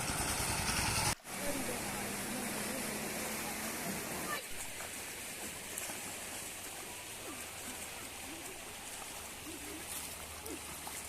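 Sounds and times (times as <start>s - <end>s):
water rushing: 1.1s - 11.0s.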